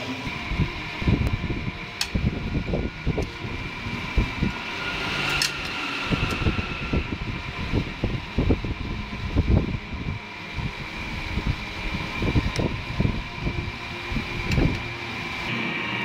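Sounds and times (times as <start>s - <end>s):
mechanical hum with whining: 0.0s - 16.0s
low thumps and rumbles: 0.3s - 15.5s.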